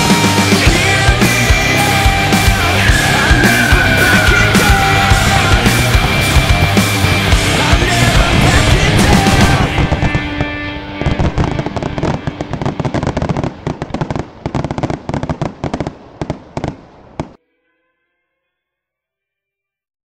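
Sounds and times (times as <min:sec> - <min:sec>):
fireworks bangs and crackles: 0:00.0 - 0:17.4.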